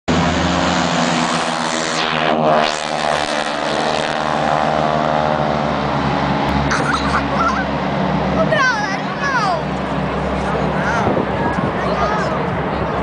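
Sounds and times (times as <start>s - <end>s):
propeller aircraft passing: 0.1s - 13.0s.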